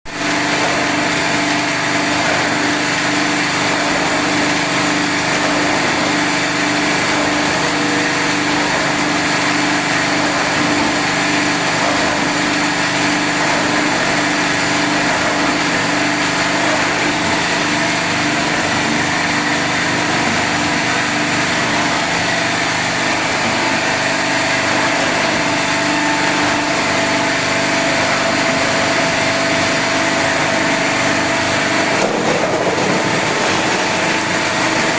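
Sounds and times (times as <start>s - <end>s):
ice machine droning: 0.1s - 34.9s.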